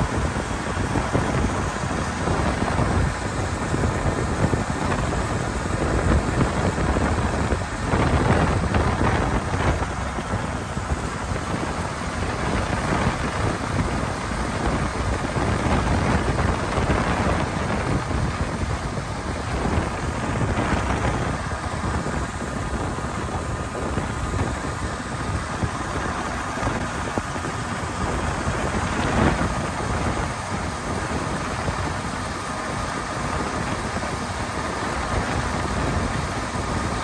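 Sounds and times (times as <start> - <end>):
diesel engine running: 0.0 - 37.0
wind buffeting microphone: 0.0 - 37.0.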